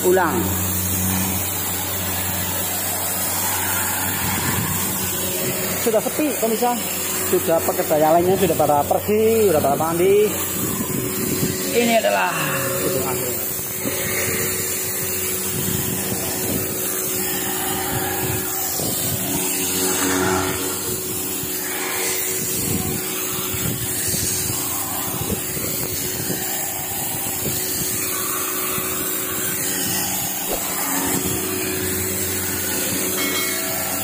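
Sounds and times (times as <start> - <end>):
pressure washer running: 0.0 - 34.0.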